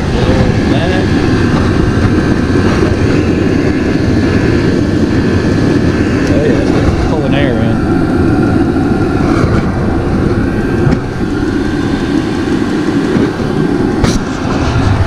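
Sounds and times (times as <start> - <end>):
diesel air heater rushing: 0.0 - 15.0.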